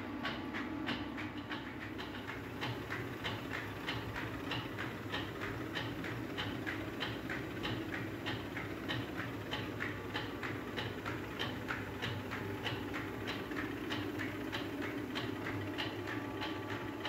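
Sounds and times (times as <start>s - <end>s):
regular clacking of mill: 0.2s - 17.0s
grain mill humming: 1.8s - 17.0s.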